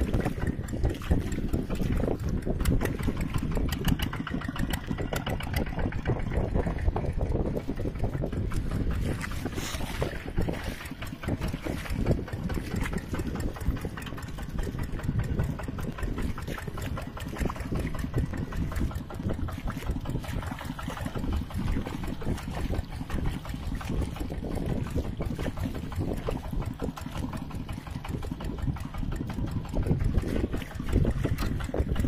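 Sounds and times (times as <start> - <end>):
tractor engine pulsing: 0.0 - 32.0.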